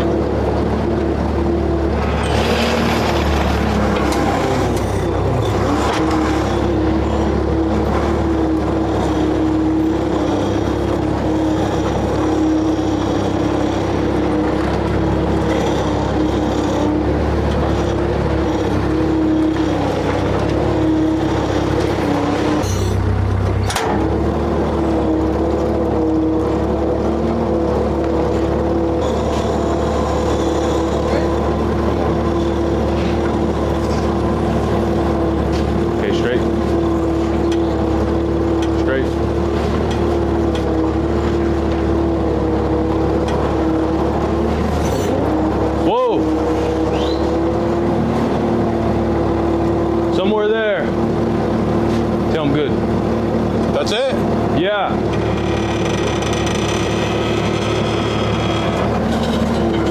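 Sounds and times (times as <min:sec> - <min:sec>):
motor running with wavering hum: 0:00.0 - 0:59.9.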